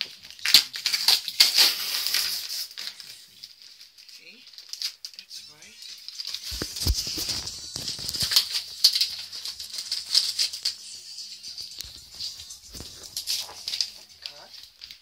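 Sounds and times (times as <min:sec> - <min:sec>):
paper and packaging rustling: 0:00.0 - 0:15.0.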